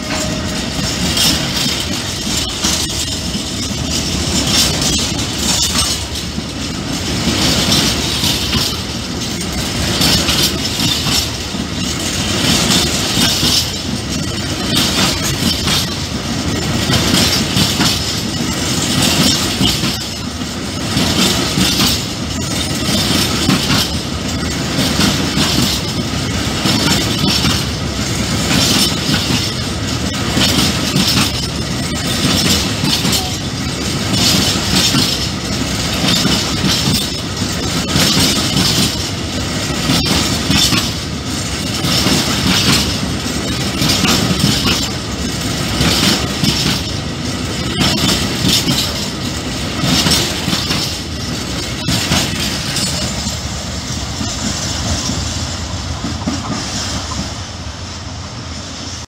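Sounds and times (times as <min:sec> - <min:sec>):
clickety-clack over rail joints: 0:00.0 - 0:57.6
train wheels rumbling on rails: 0:00.0 - 0:59.0.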